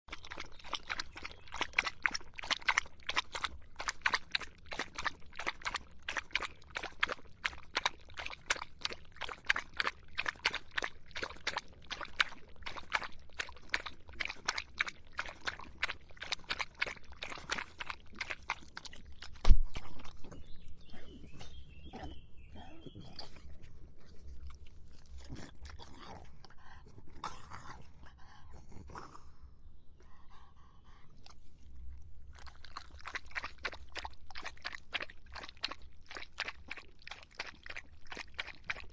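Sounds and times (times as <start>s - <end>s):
dog lapping water: 0.1s - 28.2s, 30.9s - 38.9s.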